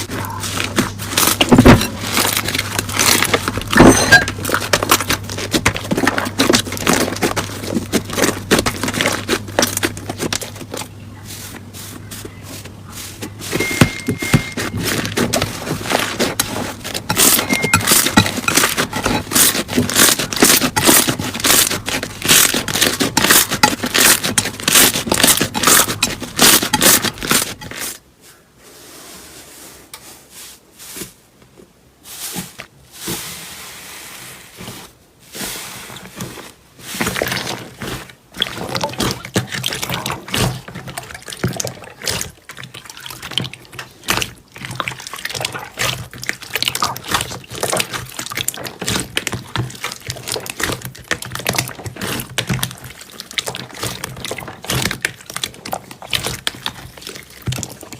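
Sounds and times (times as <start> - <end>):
slime crackling and squelching: 0.0 - 28.0, 34.6 - 57.9.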